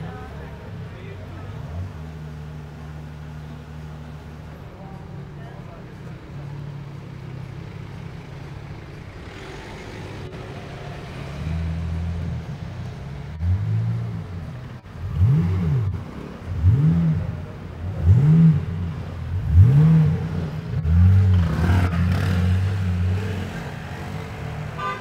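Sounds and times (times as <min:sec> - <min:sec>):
car driving off: 0:00.0 - 0:25.0.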